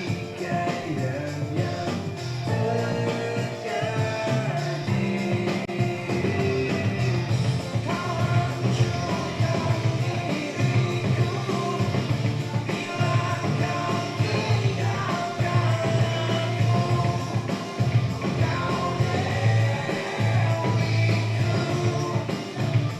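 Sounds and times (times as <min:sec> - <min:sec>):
live rock band playing: 0:00.0 - 0:22.9
person singing: 0:00.0 - 0:22.9.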